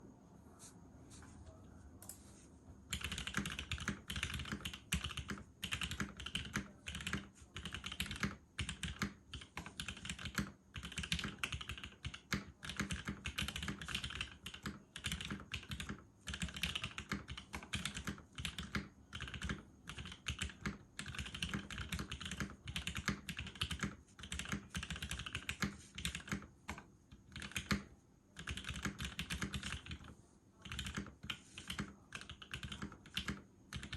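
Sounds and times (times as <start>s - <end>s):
fast typing on mechanical keyboard: 2.9s - 33.9s.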